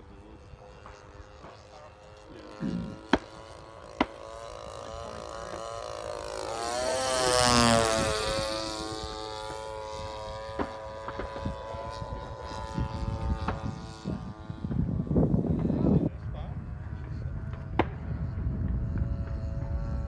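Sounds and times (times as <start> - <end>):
model airplane engine flying past: 0.0 - 20.0.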